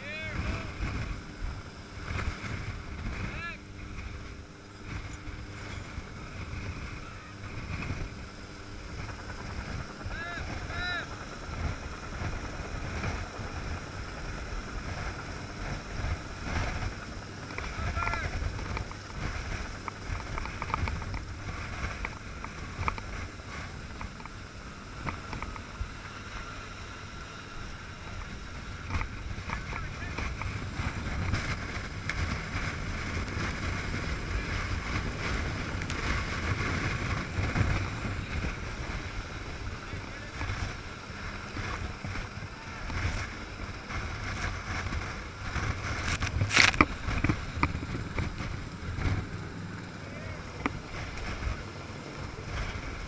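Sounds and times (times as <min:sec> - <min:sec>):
helicopter rotor and engine rumble: 0:00.0 - 0:53.0
rotor downwash buffeting microphone: 0:00.0 - 0:53.0.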